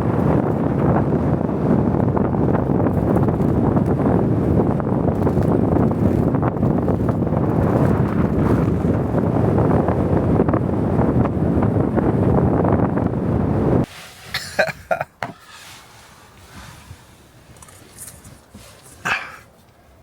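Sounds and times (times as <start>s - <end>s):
blizzard wind buffeting microphone: 0.0s - 20.0s.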